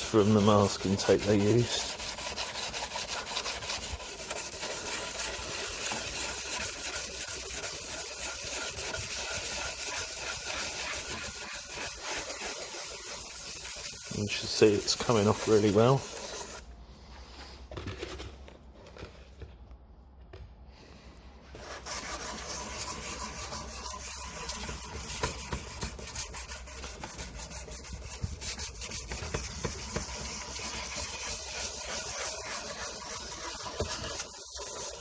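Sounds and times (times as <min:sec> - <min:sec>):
sandpaper scrubbing plastic: 0:00.0 - 0:16.6, 0:21.6 - 0:35.0.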